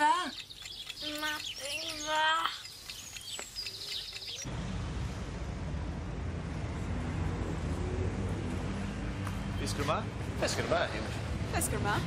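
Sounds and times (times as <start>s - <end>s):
low traffic rumble: 0.0s - 12.0s
street ambience: 0.0s - 12.0s.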